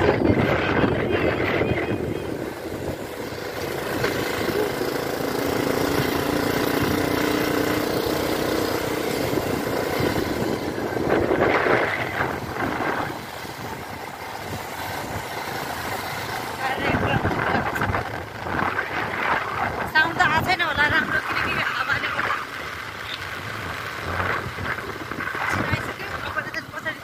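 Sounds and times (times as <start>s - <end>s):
vehicle engine and road rumble: 0.0s - 27.0s
wind noise: 0.0s - 27.0s.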